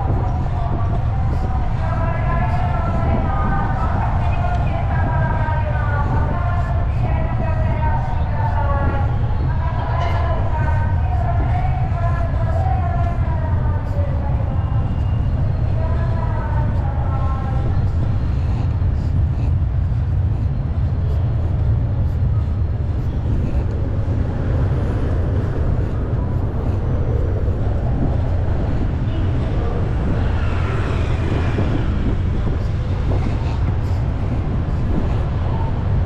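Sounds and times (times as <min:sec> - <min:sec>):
street traffic: 0:00.0 - 0:36.0
wind buffeting microphone: 0:00.0 - 0:36.0.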